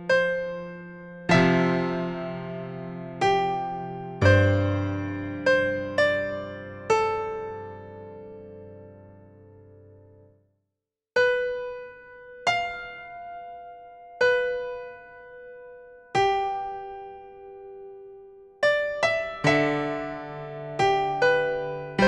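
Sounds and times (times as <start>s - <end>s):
slow solo piano: 0.0s - 10.4s, 11.2s - 22.0s.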